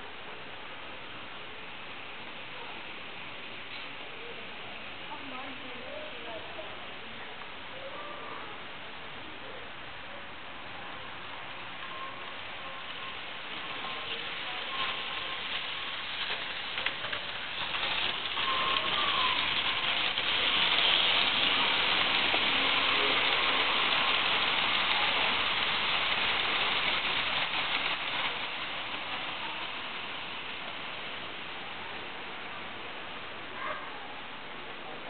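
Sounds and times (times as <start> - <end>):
model train wheels on rails: 0.0 - 7.7, 8.5 - 33.4.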